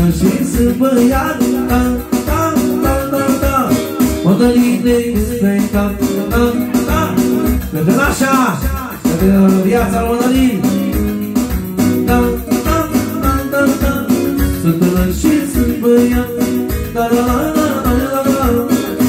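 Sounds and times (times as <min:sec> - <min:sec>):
keyboard melody over beat: 0:00.0 - 0:19.0.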